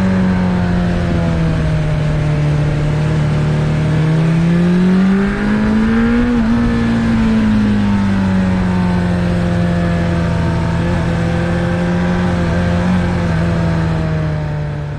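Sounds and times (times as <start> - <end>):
motorcycle engine droning: 0.0 - 14.9.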